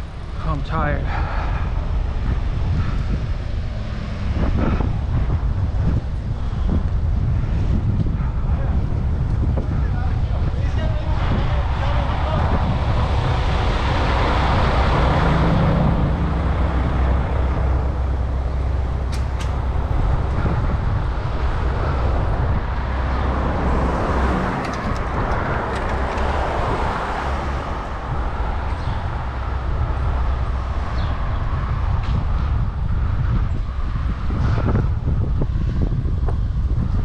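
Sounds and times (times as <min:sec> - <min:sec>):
road traffic noise: 0:00.0 - 0:37.0
wind rumble on microphone: 0:00.0 - 0:37.0.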